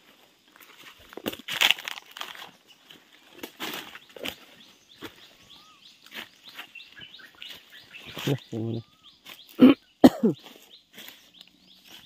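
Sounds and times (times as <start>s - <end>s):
footsteps crunching on dry leaves: 0.0s - 9.7s, 10.3s - 12.0s.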